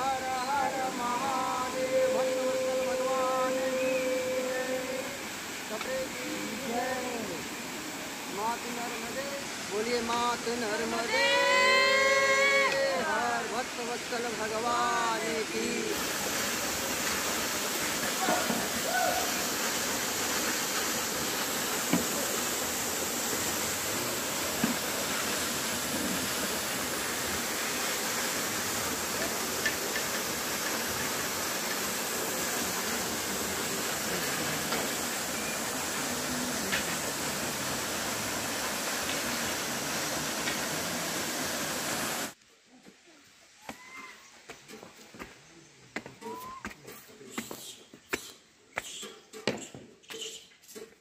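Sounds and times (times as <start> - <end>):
waterfall rushing onto rocks: 0.0 - 42.4.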